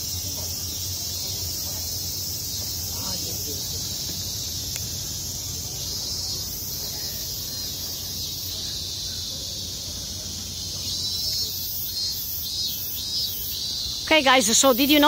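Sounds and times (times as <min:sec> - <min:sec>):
cicadas buzzing: 0:00.0 - 0:15.0
pulsing cicada call: 0:00.0 - 0:15.0.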